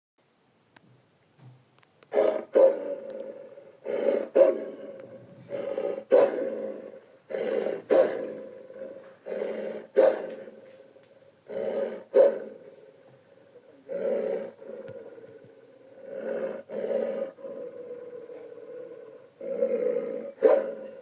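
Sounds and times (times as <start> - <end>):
cartoon wolf growls: 2.1 - 10.8, 11.5 - 12.9, 13.8 - 21.0.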